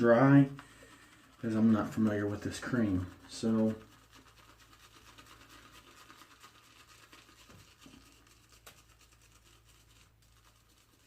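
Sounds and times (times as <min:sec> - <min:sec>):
shaving brush scratching in cream: 0:00.0 - 0:11.0.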